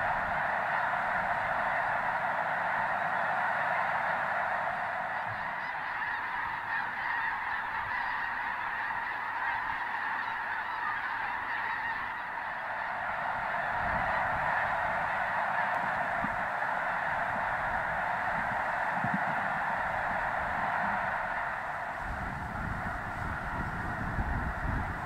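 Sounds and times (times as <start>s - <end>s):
flock of geese honking: 0.0s - 25.0s.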